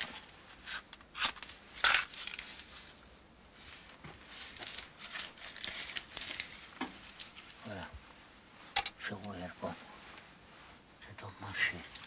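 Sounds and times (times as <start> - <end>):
soft crackles and rustles: 0.0 - 12.0.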